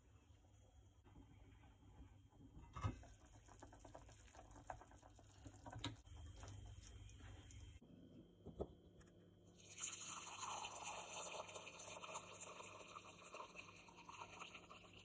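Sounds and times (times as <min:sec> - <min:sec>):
water simmering in a pot: 0:00.2 - 0:07.8, 0:09.6 - 0:15.0.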